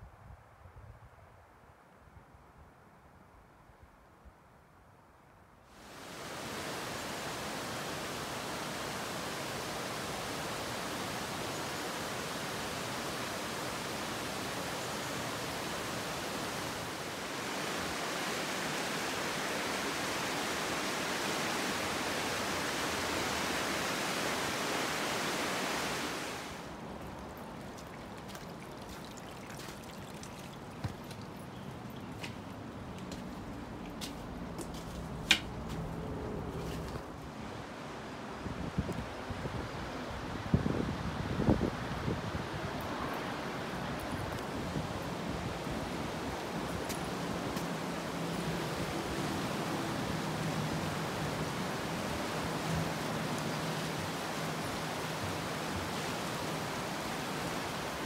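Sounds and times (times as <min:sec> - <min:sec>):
stream water flowing: 0:05.7 - 0:58.0.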